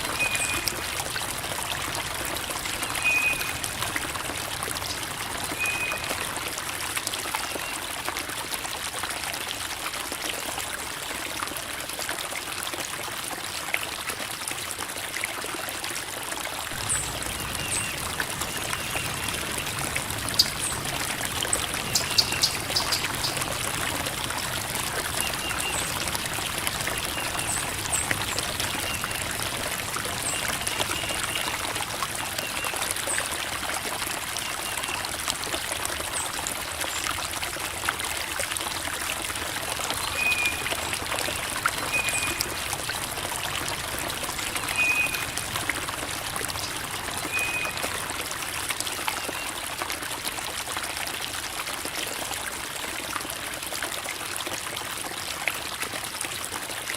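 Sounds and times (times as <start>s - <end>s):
creek water babbling over rocks: 0.0s - 56.9s.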